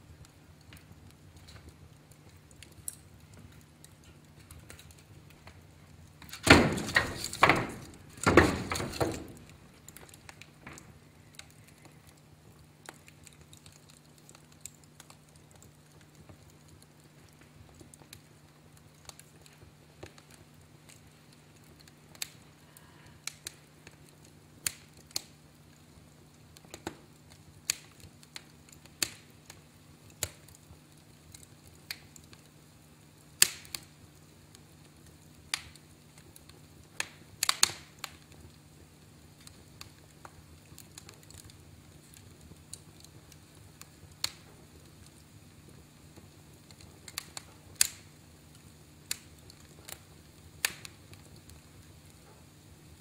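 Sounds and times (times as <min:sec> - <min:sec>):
fire crackling: 0:00.0 - 0:53.0
sharp pops of fire: 0:00.1 - 0:53.0.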